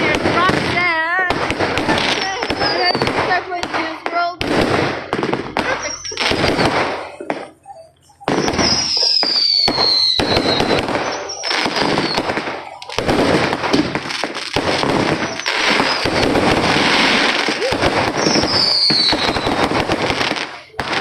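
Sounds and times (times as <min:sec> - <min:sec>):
firework whistle: 0:00.0 - 0:03.4, 0:04.4 - 0:21.0
firecrackers crackling and popping: 0:00.0 - 0:21.0.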